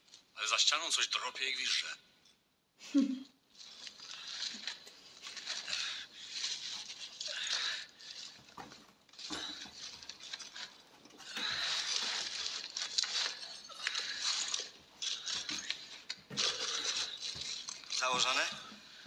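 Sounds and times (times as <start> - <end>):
scratching behind a wall: 3.6 - 19.0.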